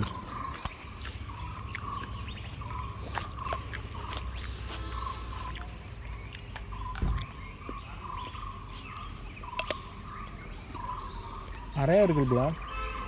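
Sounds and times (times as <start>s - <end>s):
insect drone: 0.0s - 13.0s.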